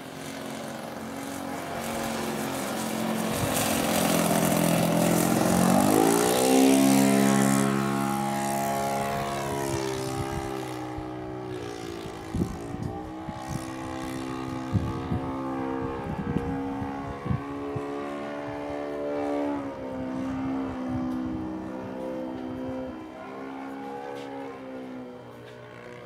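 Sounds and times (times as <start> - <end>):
model airplane engine: 0.0 - 26.0.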